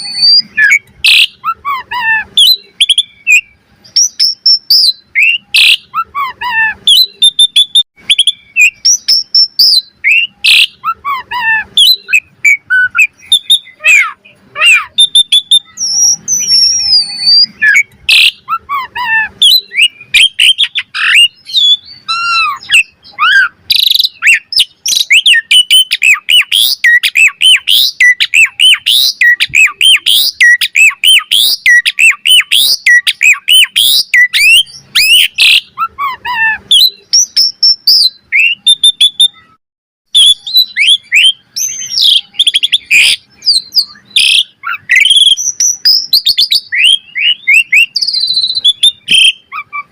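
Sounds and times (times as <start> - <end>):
starling singing chirps and whistles: 0.0 - 49.9.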